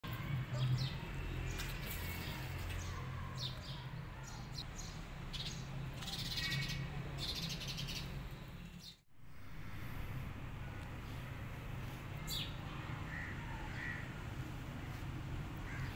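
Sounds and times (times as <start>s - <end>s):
small birds chirping: 0.1s - 9.0s, 10.7s - 15.9s.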